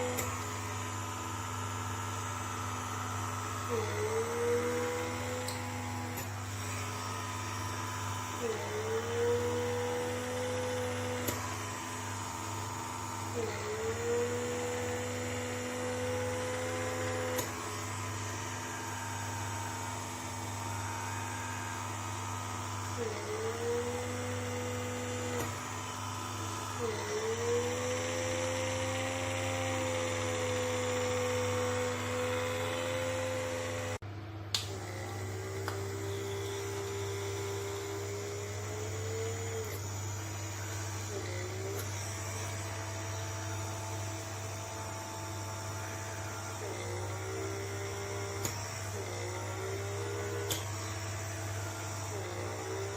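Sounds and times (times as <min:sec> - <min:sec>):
small electric motor whining: 0:00.0 - 0:34.0, 0:34.6 - 0:52.9.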